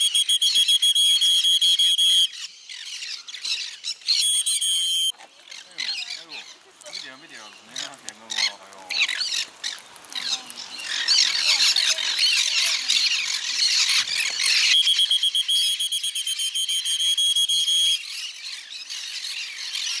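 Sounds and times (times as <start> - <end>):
flock of parrots squawking: 2.2 - 15.9, 16.7 - 20.0.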